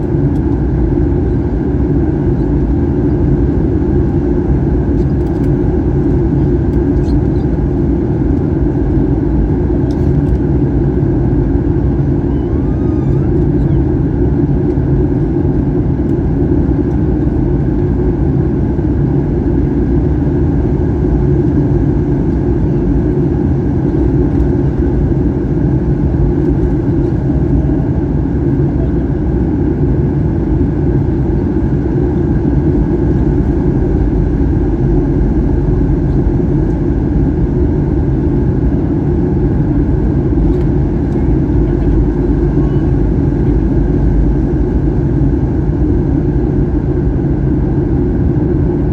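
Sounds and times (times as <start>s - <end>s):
jet engines droning in cabin: 0.0s - 48.9s.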